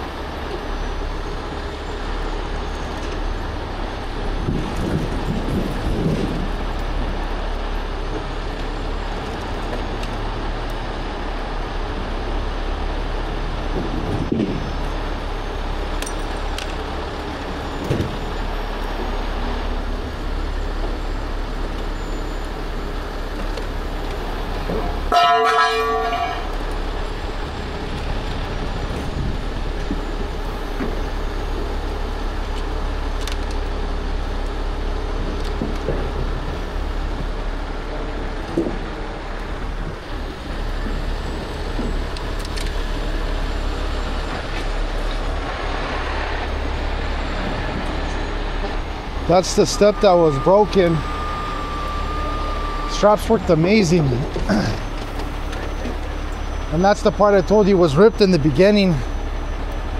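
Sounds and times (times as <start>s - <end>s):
diesel engines rumbling: 0.0s - 59.9s.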